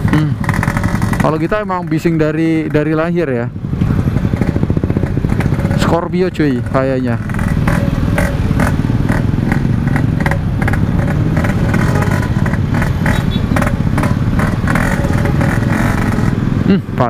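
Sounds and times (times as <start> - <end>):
exhaust crackles: 0.0 - 17.0
two-stroke motorcycle engine running: 0.0 - 17.0.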